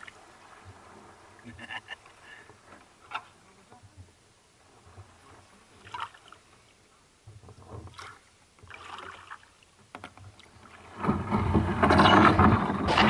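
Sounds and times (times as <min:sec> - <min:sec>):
paddle strokes swishing through water: 0:00.0 - 0:11.8
water rushing against hull: 0:00.0 - 0:13.0.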